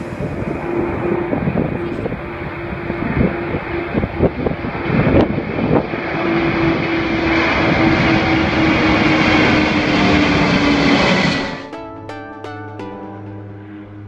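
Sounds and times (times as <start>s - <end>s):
jet engine roar: 0.0s - 11.7s
low steady drone: 0.0s - 14.0s.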